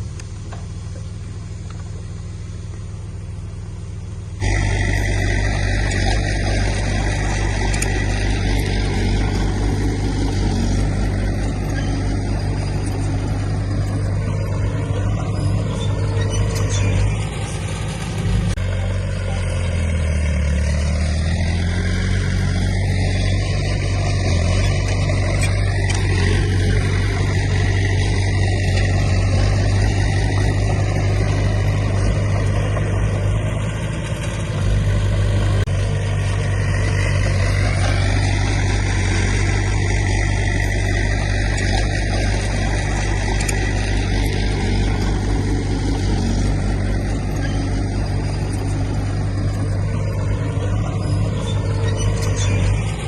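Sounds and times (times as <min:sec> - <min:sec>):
heavy machinery diesel engine: 0:00.0 - 0:53.0.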